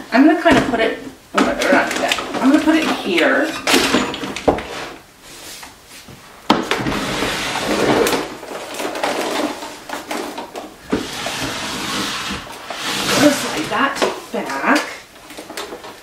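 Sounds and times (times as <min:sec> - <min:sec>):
bottles and packages clattering: 0:00.4 - 0:05.0, 0:06.5 - 0:16.0.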